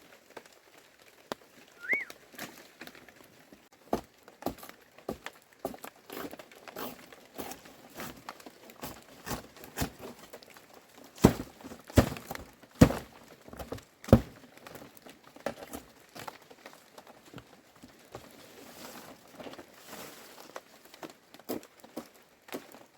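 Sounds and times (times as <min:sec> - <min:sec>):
material crinkling and rustling: 0:00.0 - 0:22.9.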